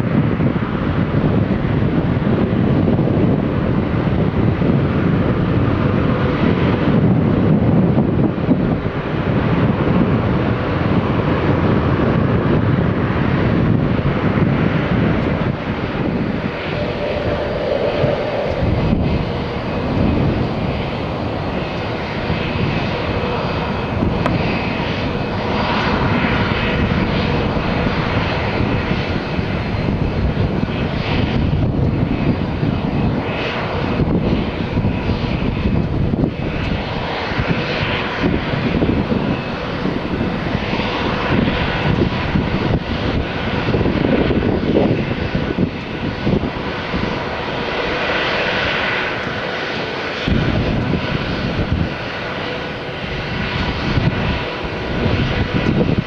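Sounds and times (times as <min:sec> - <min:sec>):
jet engines at takeoff power: 0:00.0 - 0:56.0.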